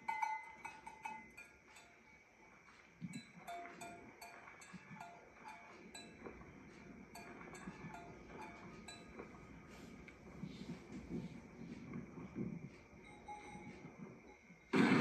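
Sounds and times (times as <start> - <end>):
faint cowbells clanking: 0.0 - 12.2, 12.8 - 14.8.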